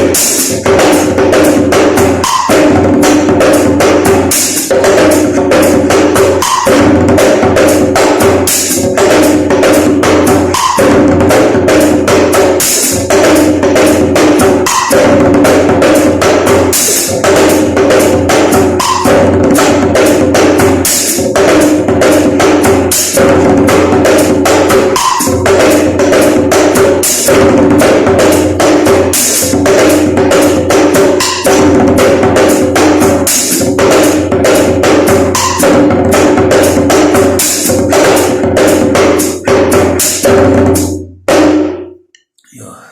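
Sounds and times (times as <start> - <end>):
hand drumming on djembe: 0.0 - 41.8.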